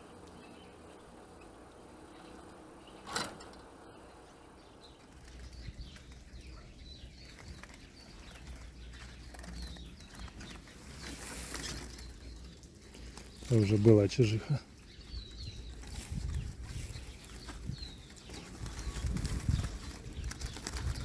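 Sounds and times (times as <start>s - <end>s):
wing flutters: 1.9s - 21.0s
finch chirps: 3.9s - 21.0s.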